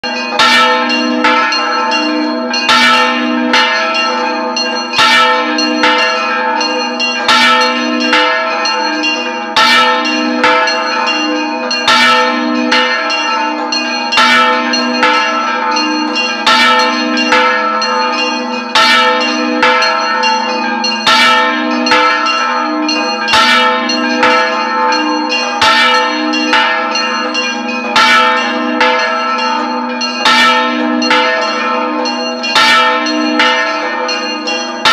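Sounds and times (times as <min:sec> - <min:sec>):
church bell clapper strikes: 0:00.0 - 0:34.9.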